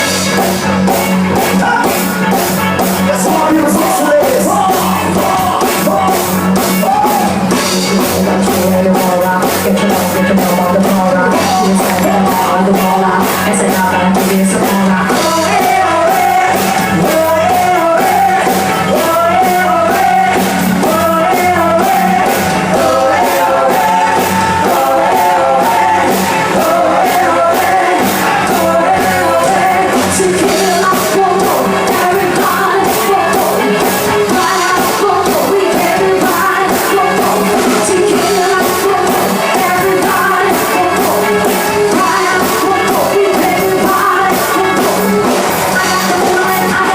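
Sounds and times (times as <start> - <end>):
rock band music with singer: 0.0 - 46.9.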